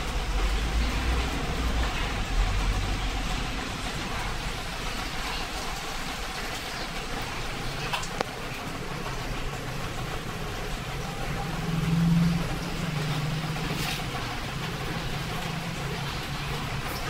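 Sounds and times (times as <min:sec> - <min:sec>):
motor hum: 0:00.0 - 0:17.0.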